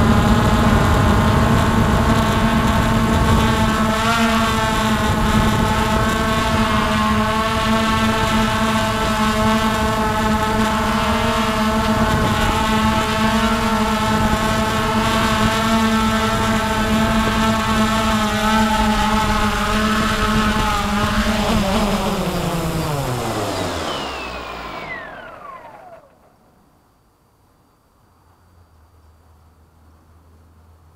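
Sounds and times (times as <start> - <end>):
quadcopter motors whining: 0.0 - 26.6.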